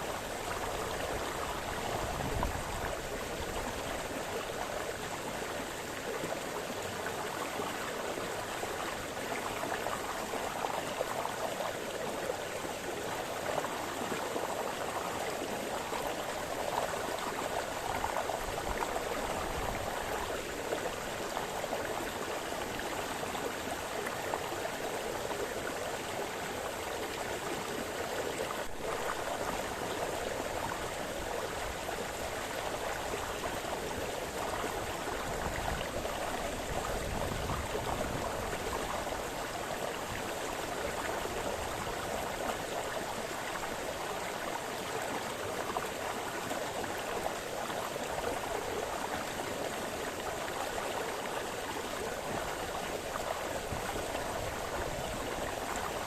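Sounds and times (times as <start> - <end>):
brook burbling over stones: 0.0 - 56.0.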